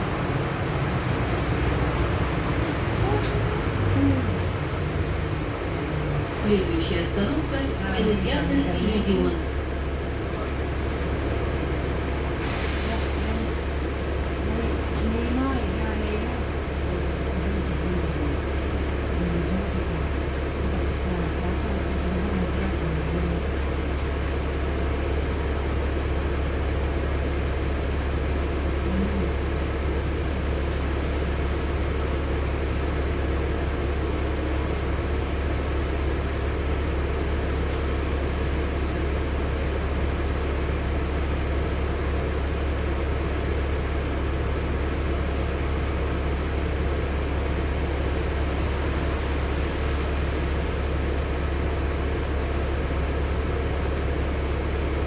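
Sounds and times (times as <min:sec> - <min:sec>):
bus engine drone: 0:00.0 - 0:55.0
road and running noise: 0:00.0 - 0:55.0.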